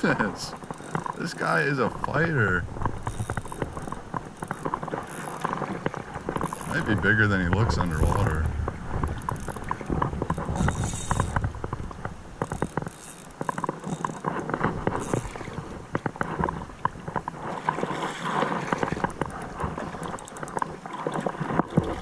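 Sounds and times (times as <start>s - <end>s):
flowing creek: 0.0s - 22.0s
fishing reel ticking: 0.6s - 22.0s.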